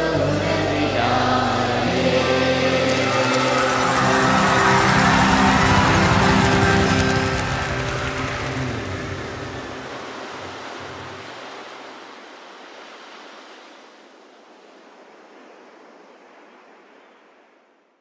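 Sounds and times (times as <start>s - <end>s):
steady rushing noise: 1.4s - 17.6s.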